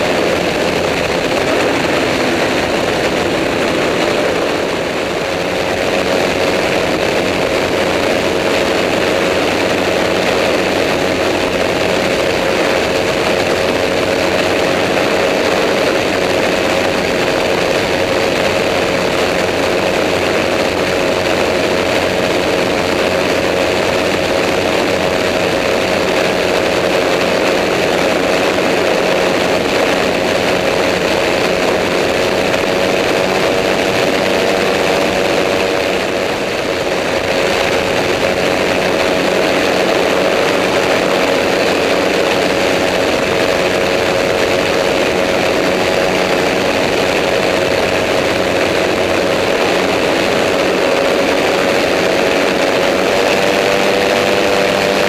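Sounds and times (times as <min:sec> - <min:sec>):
engine and propeller drone: 0:00.0 - 0:55.0.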